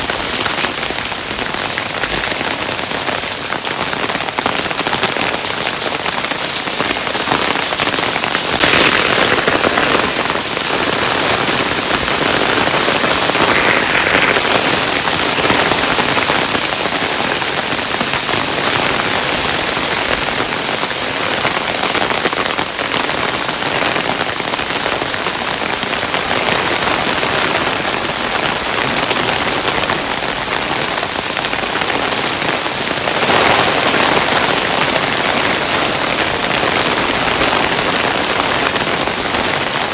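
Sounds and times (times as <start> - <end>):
hail pattering: 0.0 - 39.9.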